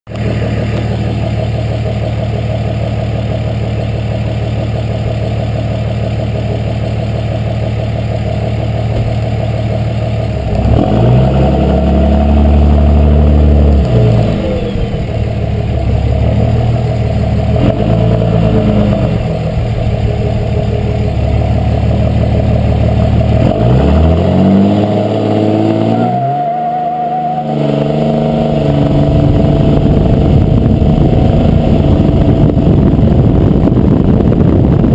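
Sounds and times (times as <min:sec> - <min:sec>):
diesel truck engine: 0:00.1 - 0:34.9
turbo whine: 0:00.1 - 0:34.9.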